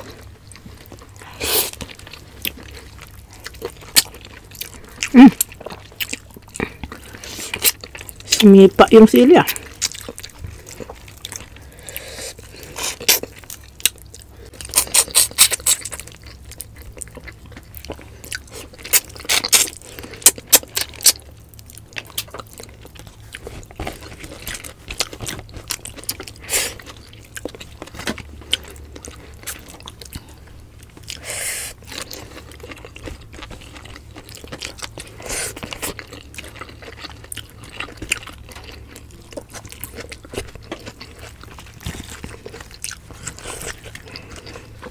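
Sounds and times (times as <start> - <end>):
food crunching: 0.0 - 44.9
soft chewing: 0.0 - 44.9.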